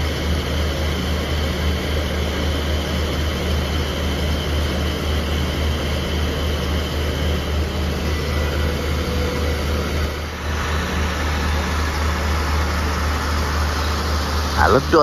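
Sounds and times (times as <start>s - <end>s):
diesel train engines idling: 0.0s - 15.0s.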